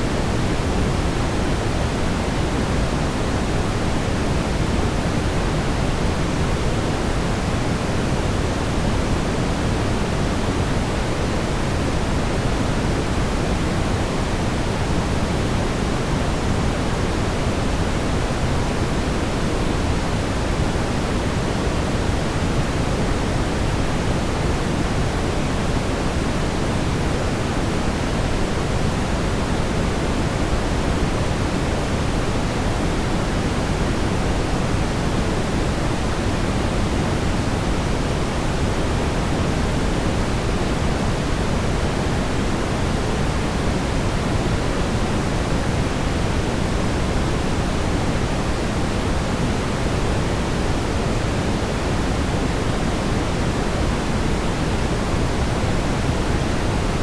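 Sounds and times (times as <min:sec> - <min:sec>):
brown noise rumbling hiss: 0:00.0 - 0:57.0.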